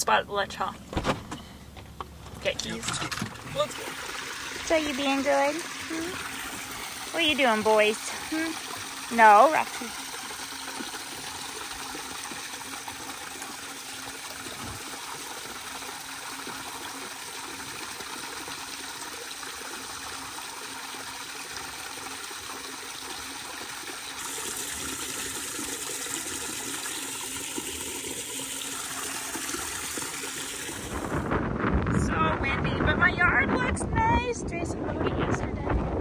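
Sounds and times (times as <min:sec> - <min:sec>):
water splashing into a tank: 0:02.3 - 0:31.6.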